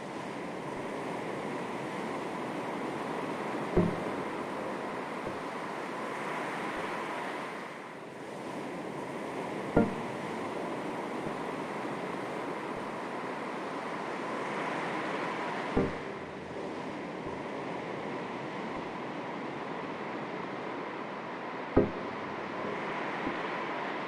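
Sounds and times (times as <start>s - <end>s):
sea waves lapping on shore: 0.0s - 24.0s.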